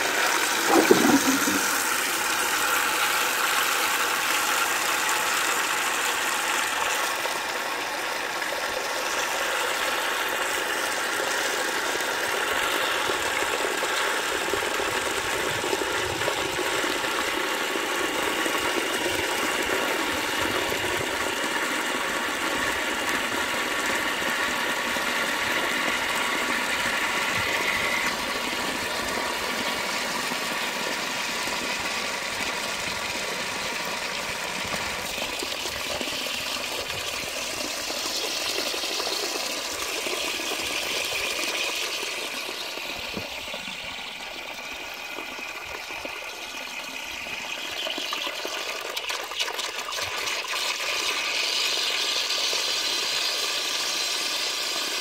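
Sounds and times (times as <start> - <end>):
water rushing into cistern: 0.0 - 55.0.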